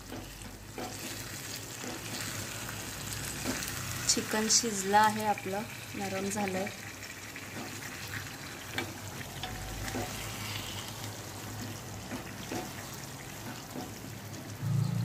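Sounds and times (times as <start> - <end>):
curry simmering with wet sizzle: 0.0 - 15.0.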